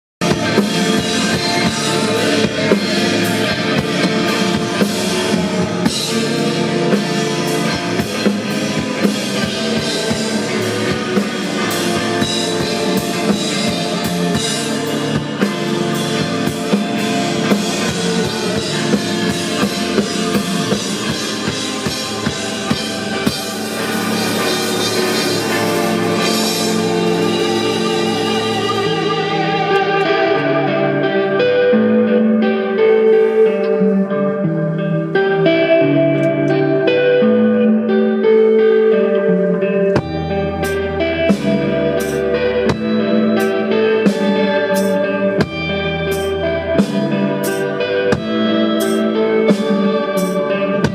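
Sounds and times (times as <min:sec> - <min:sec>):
drum kit playing: 0:00.2 - 0:30.5, 0:39.9 - 0:50.9
electric guitar: 0:00.2 - 0:50.9.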